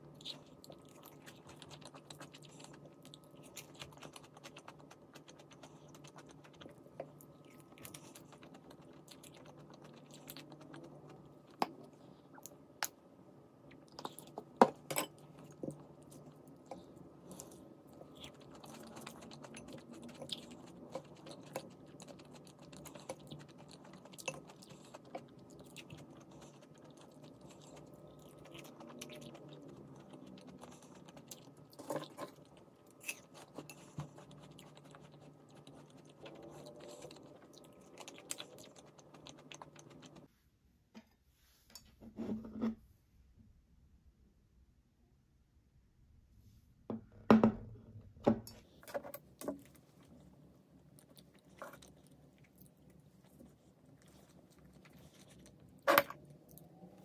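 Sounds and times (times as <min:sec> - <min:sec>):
person chewing: 0:00.0 - 0:13.0, 0:13.7 - 0:40.3, 0:49.4 - 0:57.0
faint steady hum: 0:00.0 - 0:57.0.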